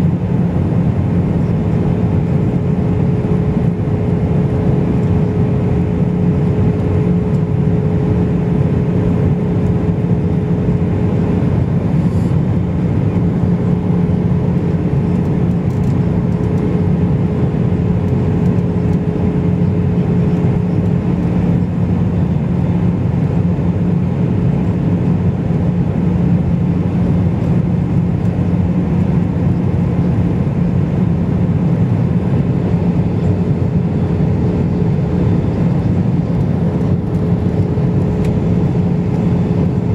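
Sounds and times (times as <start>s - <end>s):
engine rumble: 0.0s - 39.9s
low steady drone: 0.0s - 39.9s.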